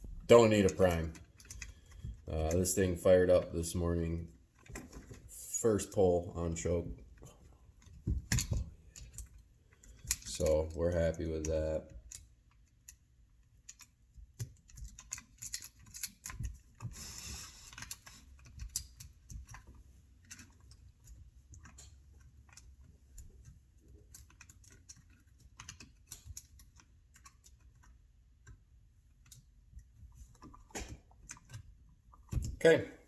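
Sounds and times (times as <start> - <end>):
tools clicking and tapping: 0.3 - 2.9, 7.2 - 32.6.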